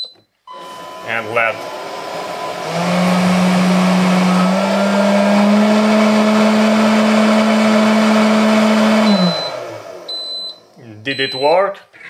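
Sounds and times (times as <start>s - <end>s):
trash can motor humming: 0.5s - 10.4s.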